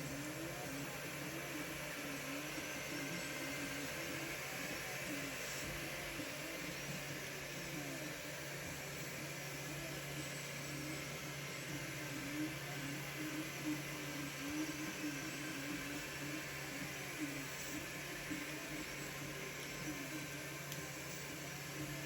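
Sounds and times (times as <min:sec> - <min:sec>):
fan hum and hiss: 0:00.0 - 0:22.0.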